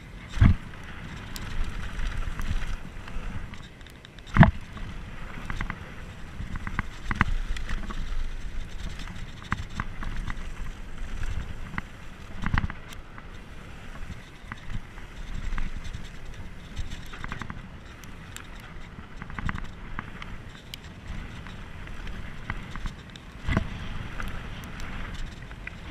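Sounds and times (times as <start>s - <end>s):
bike rattling clicks: 0.0s - 25.9s
bike tyres on dirt: 0.0s - 25.9s
wind rumble on microphone: 0.0s - 25.9s
bike knocking over bumps: 0.2s - 3.7s, 4.3s - 25.9s.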